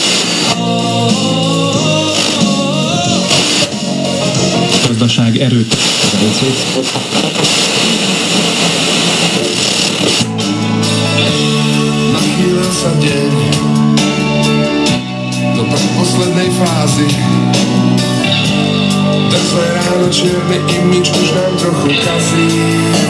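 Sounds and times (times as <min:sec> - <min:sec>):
radio static hiss: 0:00.0 - 0:00.7, 0:01.3 - 0:23.0
radio music with singing: 0:00.0 - 0:23.0.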